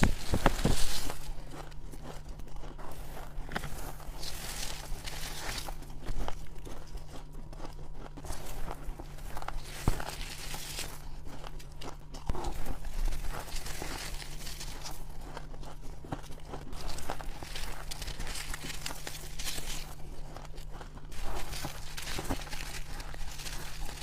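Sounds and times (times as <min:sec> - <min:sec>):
chewing crunchy ice: 0:00.0 - 0:24.0.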